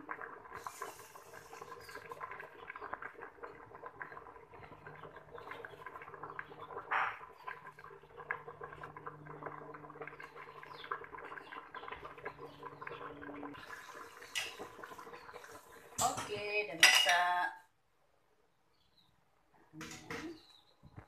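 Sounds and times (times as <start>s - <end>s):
soup bubbling in a pot: 0.0s - 17.4s.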